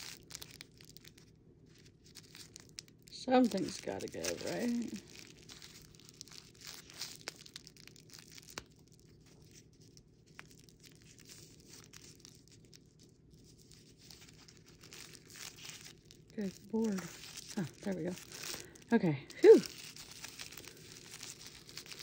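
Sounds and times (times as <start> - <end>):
packaging rustling and tearing: 0.0 - 22.0.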